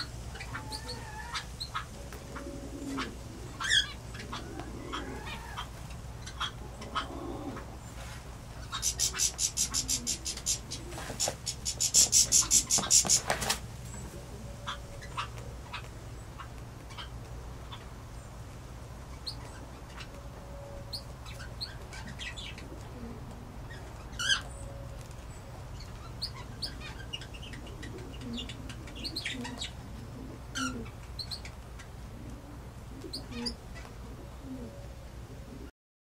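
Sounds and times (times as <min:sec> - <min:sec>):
small birds chirping: 0:00.0 - 0:34.9
steady low hum: 0:00.0 - 0:35.7.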